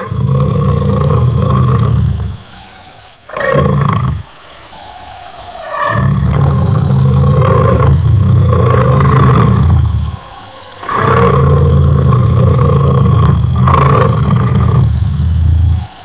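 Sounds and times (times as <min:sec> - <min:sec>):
lion roaring: 0:00.0 - 0:16.0.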